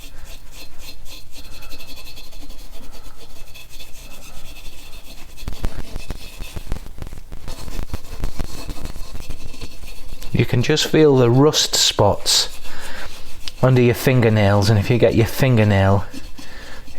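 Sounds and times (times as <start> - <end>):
rubbing strokes on chrome: 0.0 - 16.9.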